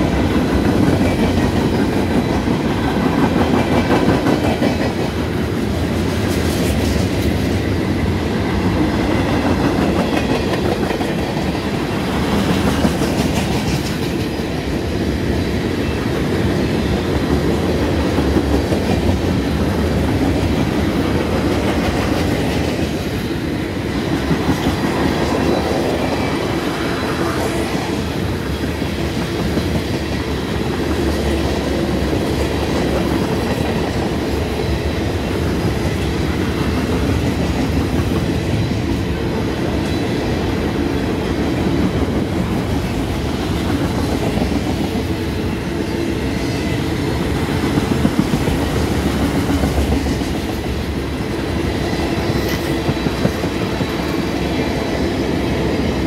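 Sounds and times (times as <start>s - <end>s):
clickety-clack over rail joints: 0.0s - 56.0s
steel wheels rumbling on rail: 0.0s - 56.0s.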